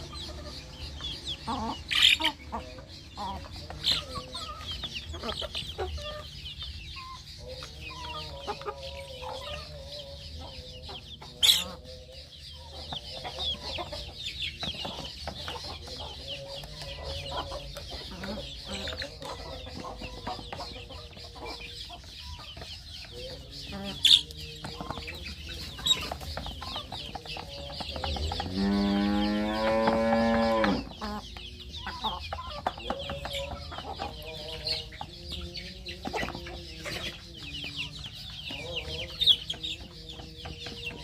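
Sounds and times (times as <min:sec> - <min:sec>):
chickens clucking and peeping: 0:00.0 - 0:41.0.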